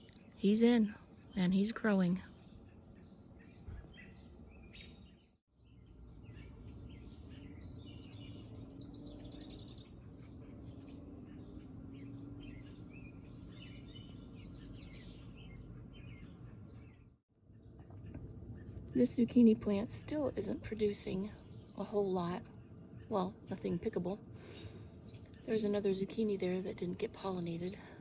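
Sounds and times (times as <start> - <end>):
low rumble of outdoor noise: 0.0 - 28.0
wild birds chirping and singing: 0.0 - 28.0.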